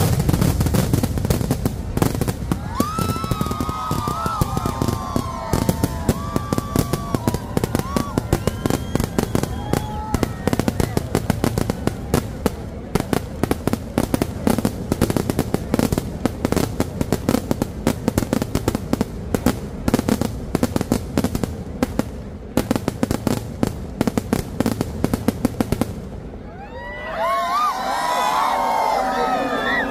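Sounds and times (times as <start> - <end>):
firecracker bangs: 0.0 - 26.2.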